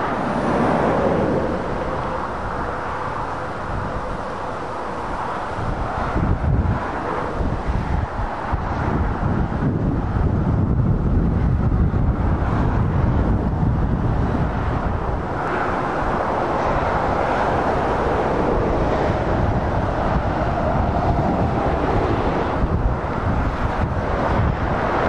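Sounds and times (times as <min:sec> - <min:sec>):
traffic driving past: 0:00.0 - 0:25.0
wind rumbling on microphone: 0:00.0 - 0:25.0.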